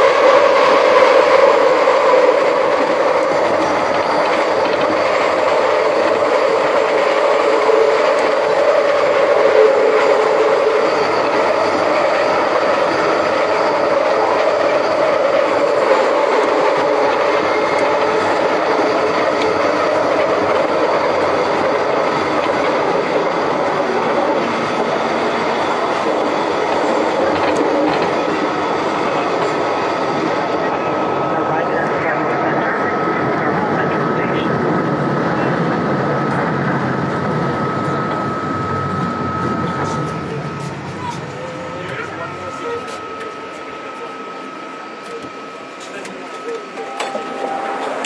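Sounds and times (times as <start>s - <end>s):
train rolling with hum: 0.0s - 48.0s.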